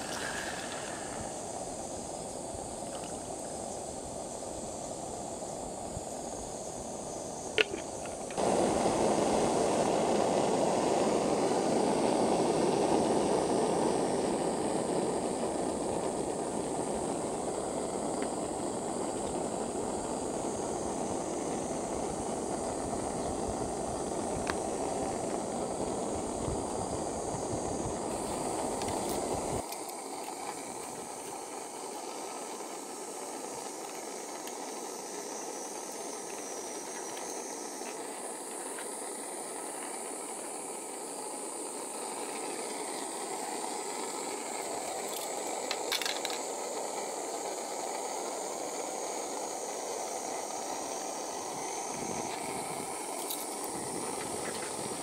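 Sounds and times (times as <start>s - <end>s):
gas stove burner hissing: 0.0s - 55.0s
water boiling: 0.0s - 55.0s.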